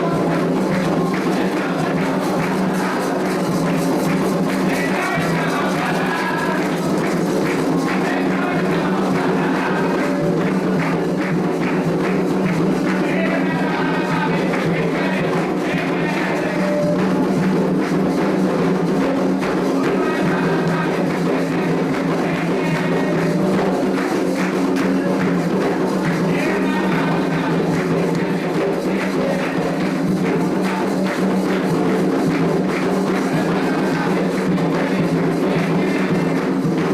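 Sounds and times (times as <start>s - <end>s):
group singing chants: 0.0s - 36.9s
hand drums and percussion: 0.0s - 36.9s.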